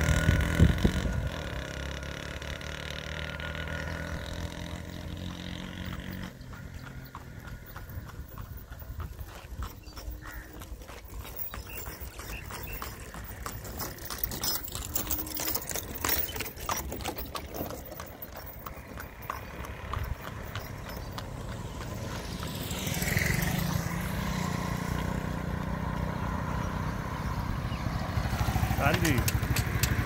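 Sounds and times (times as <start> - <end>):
motorcycle engine humming: 0.0 - 30.0
hooves clopping: 3.7 - 26.9, 27.6 - 30.0.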